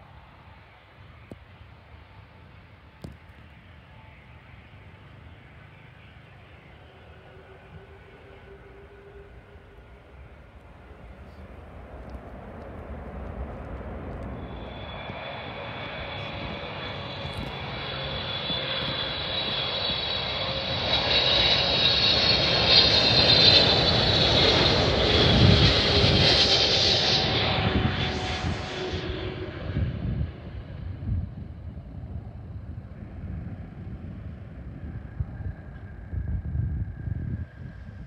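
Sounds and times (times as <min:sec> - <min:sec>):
jet airliner rumble: 0:00.0 - 0:38.0.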